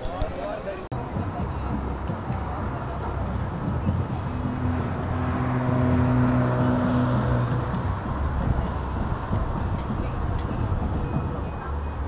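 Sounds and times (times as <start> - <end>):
road traffic rumble: 0.0 - 12.0
vehicle passing: 1.0 - 12.0.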